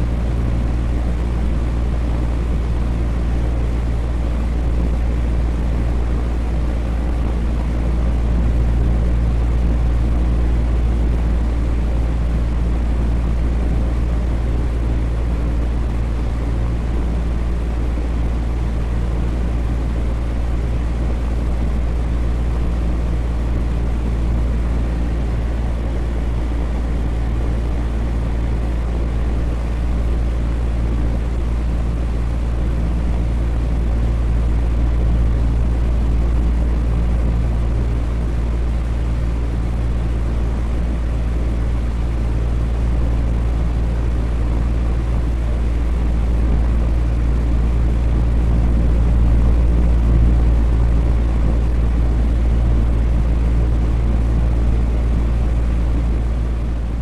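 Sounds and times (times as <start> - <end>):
electric fan whirring: 0.0 - 57.0
low motor hum: 0.0 - 57.0.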